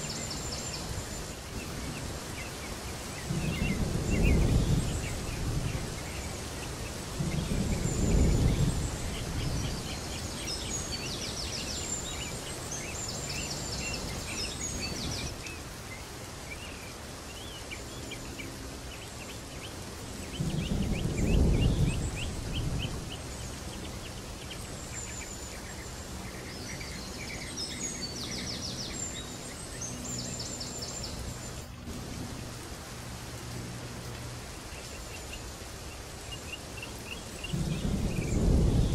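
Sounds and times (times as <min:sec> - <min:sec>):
steady outdoor noise: 0:00.0 - 0:38.9.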